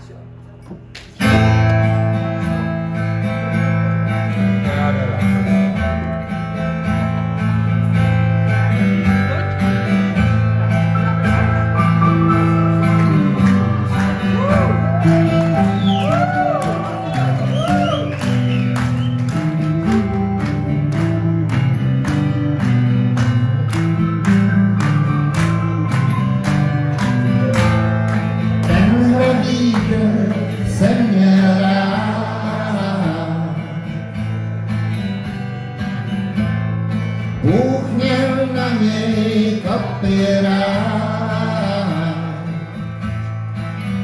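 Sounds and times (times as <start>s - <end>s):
live band playing: 0.8s - 44.0s
lead guitar line bending notes: 1.2s - 44.0s.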